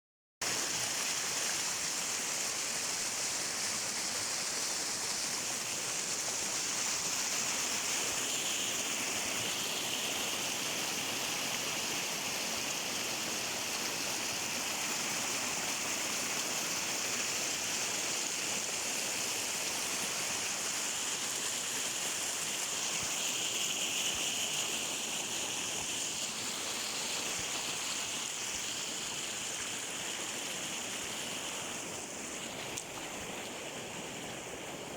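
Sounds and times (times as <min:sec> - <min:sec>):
stream flowing: 0:00.4 - 0:34.9.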